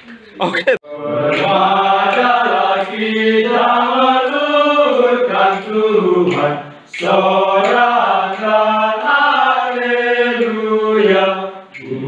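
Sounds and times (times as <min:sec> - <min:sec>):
men singing a hymn: 0:00.9 - 0:12.0.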